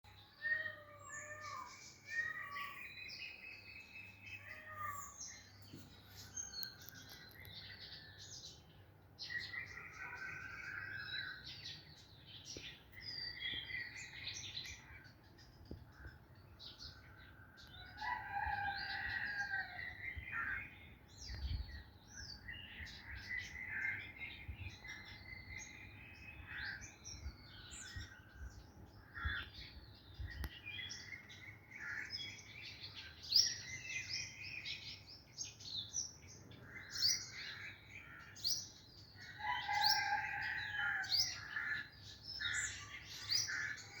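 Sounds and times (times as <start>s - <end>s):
birds chirping and calling: 0.1s - 44.0s.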